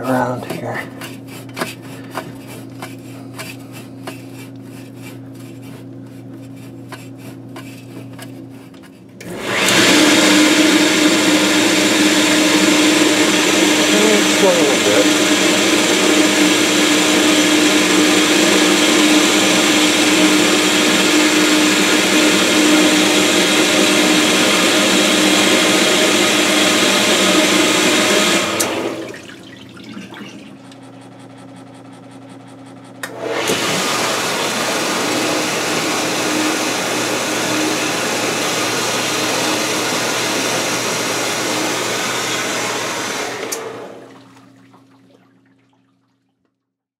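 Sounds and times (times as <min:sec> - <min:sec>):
dishwasher motor humming: 0:00.0 - 0:45.7.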